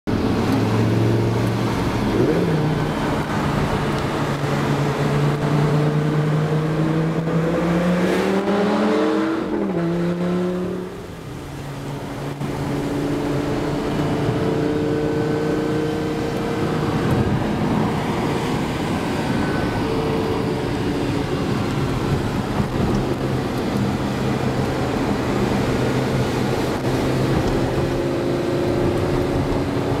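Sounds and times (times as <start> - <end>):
road noise: 0.0 - 30.0
car engine accelerating: 0.1 - 30.0.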